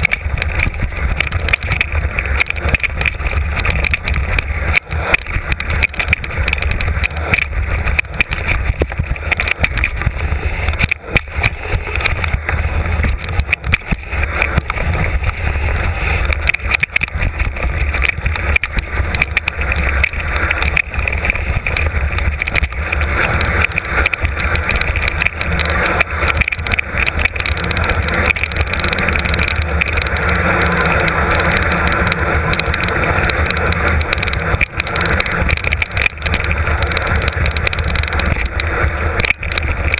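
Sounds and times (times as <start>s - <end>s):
bicycle clicks and rattles: 0.0s - 39.9s
bicycle tyre noise: 0.0s - 39.9s
wind buffeting: 0.0s - 39.9s.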